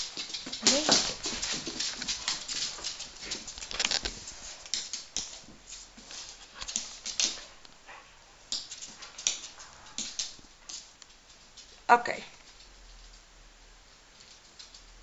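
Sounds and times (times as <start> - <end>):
dog paws scuffing hard floor: 0.0 - 13.2.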